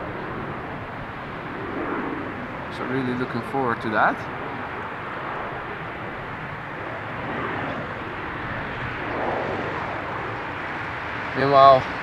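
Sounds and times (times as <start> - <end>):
distant jet engines rushing: 0.0 - 12.0.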